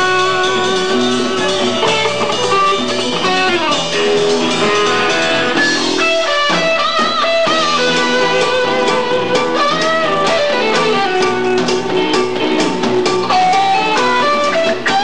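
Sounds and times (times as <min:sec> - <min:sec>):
electric guitar bent notes: 0:00.0 - 0:15.0
rock blues band playing: 0:00.0 - 0:15.0.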